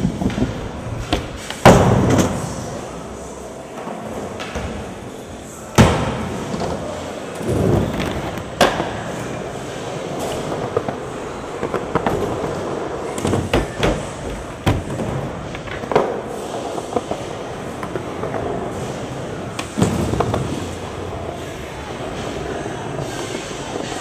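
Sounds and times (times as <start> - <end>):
skateboard wheels rolling: 0.0 - 24.0.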